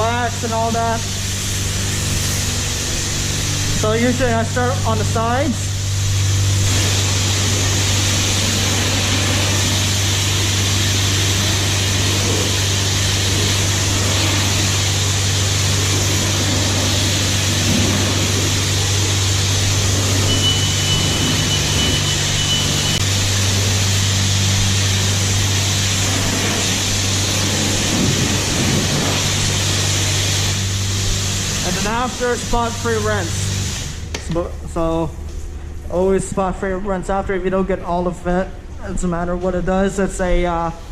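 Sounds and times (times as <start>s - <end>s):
high-pressure spray hissing: 0.0s - 34.1s
constant low hum: 0.0s - 40.9s.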